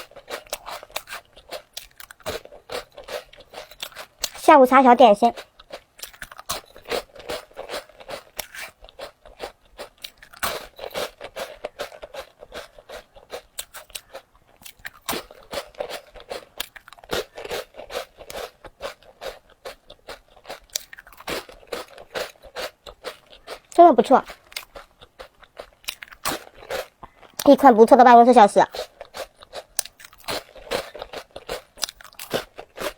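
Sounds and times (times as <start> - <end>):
crunching and chewing: 0.0 - 32.9.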